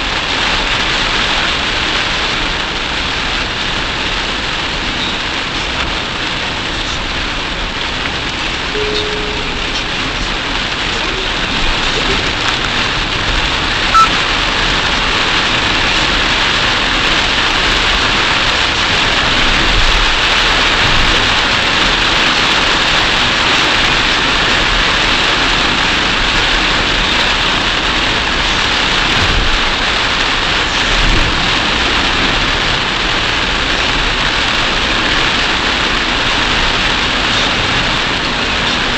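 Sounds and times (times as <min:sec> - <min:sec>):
heavy rain on car windshield: 0:00.0 - 0:38.9
tyres hissing on wet road: 0:00.0 - 0:38.9.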